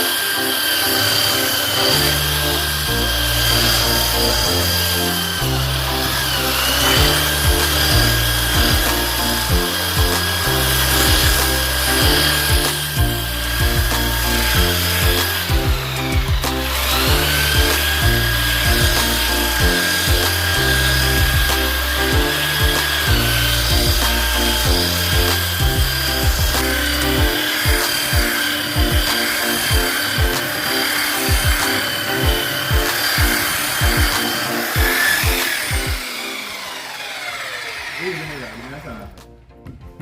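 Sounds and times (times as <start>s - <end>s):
electric sander whining: 0.0s - 39.2s
music with bass beat: 0.8s - 36.2s.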